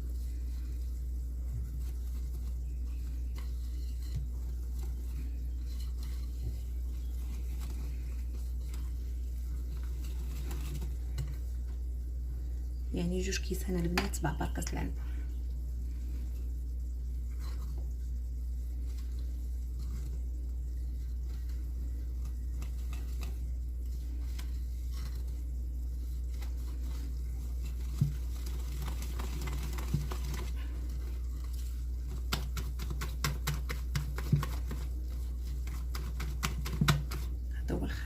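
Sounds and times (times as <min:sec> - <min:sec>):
whisk stirring batter: 0:00.0 - 0:12.4, 0:15.6 - 0:37.7.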